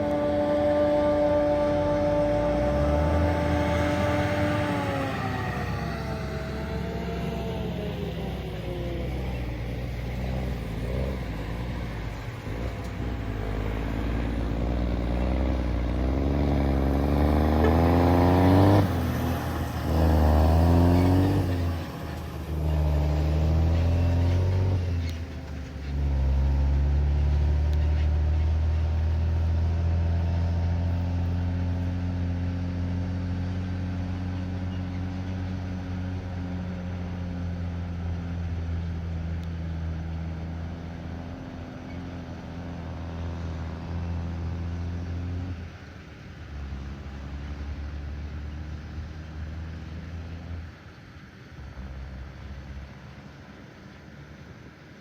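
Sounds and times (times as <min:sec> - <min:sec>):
diesel engine pulling away: 0:00.0 - 0:55.0.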